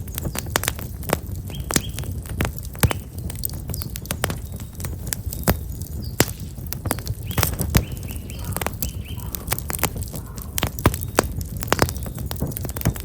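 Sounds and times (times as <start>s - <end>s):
firewood crackling and popping: 0.0s - 13.0s
small birds chirping: 0.0s - 13.0s.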